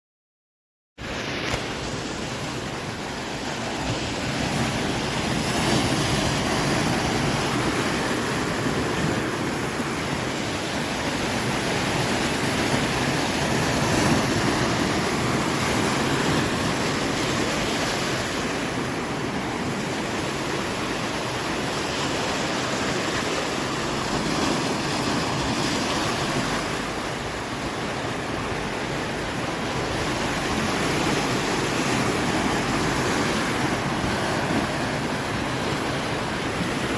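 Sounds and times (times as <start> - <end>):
ocean waves breaking on shore: 1.0 - 36.9.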